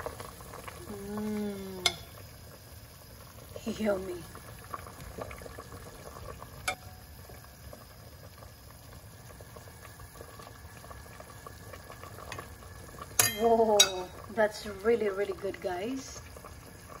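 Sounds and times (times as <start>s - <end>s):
soup bubbling in pot: 0.0s - 17.0s.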